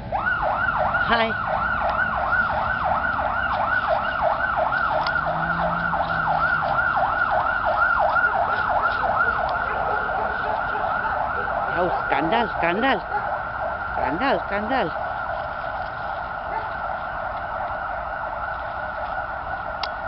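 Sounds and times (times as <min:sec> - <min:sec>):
emergency siren yelping: 0:00.0 - 0:20.0.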